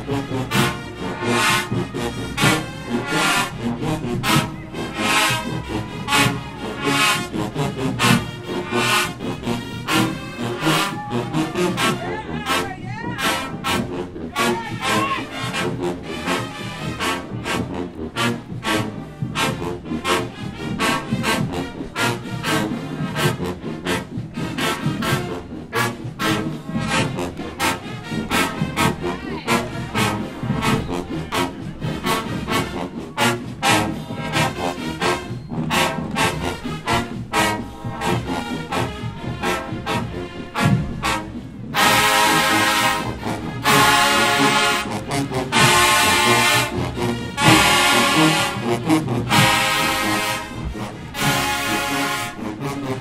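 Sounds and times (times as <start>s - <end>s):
marching band brass: 0.0s - 53.0s
steady drum beat: 0.0s - 53.0s.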